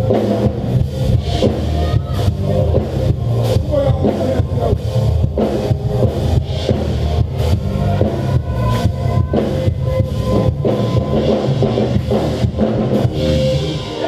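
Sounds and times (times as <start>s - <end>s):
heavy bass line: 0.0s - 14.0s
live band music: 0.0s - 14.0s.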